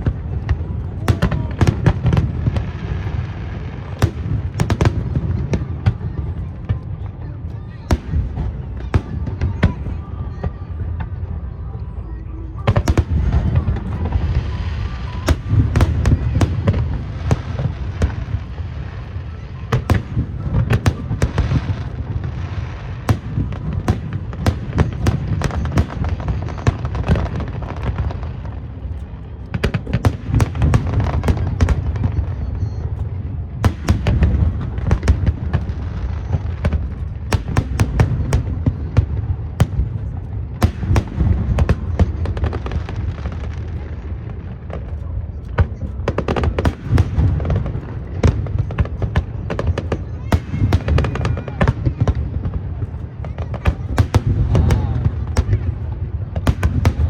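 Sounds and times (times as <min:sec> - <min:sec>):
deep fireworks booms: 0:00.0 - 0:11.5, 0:12.6 - 0:57.0
fireworks bangs and crackles: 0:00.0 - 0:57.0.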